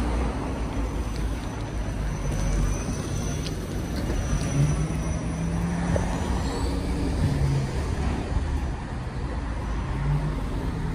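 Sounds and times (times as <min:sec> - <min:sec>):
road and tyre rumble: 0:00.0 - 0:10.9.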